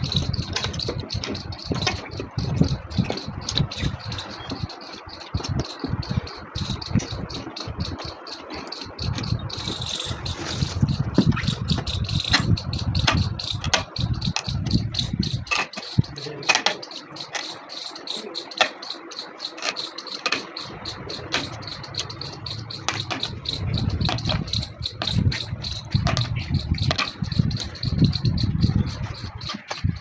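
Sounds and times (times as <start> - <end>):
low rumbling hum: 0.0 - 16.4, 20.6 - 30.0
rapid sharp clicks: 0.0 - 30.0.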